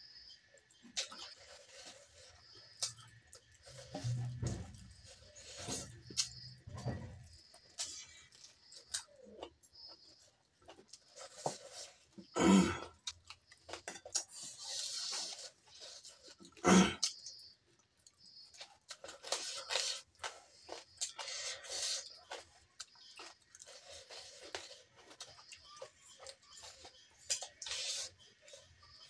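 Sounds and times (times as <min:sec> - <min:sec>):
person chewing: 0:00.2 - 0:06.6, 0:07.3 - 0:29.0.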